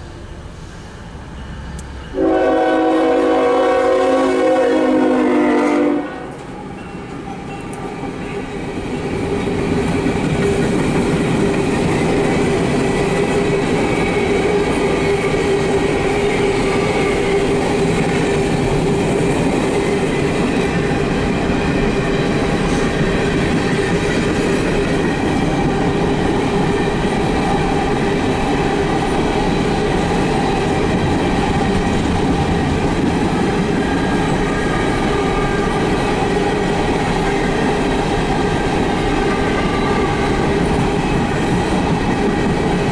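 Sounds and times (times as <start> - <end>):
steel wheels clattering on rails: 6.3 - 42.9.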